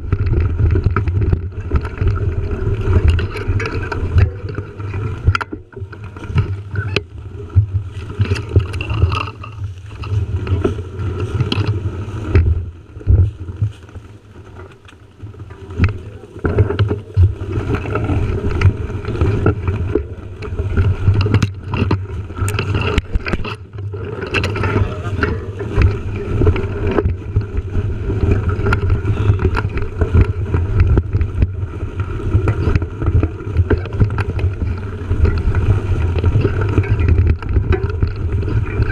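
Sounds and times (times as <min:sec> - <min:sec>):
bike rattling over bumps: 0:00.0 - 0:38.9
wind and tyres rumbling on microphone: 0:00.0 - 0:38.9.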